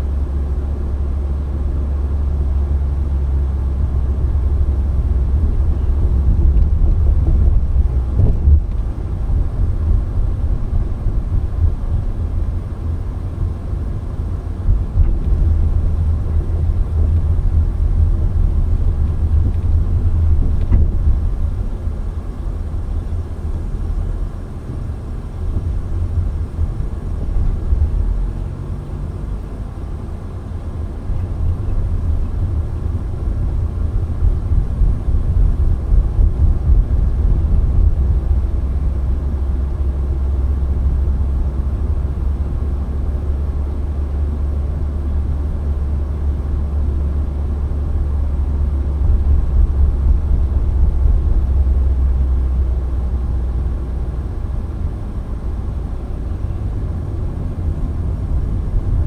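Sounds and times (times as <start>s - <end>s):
car interior rumble: 0.0s - 59.0s.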